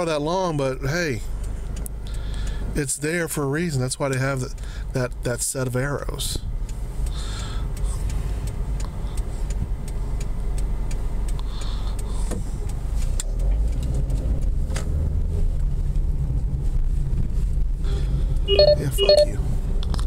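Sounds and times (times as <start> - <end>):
engine and road rumble: 0.0 - 20.0
turn signal ticking: 0.0 - 20.0.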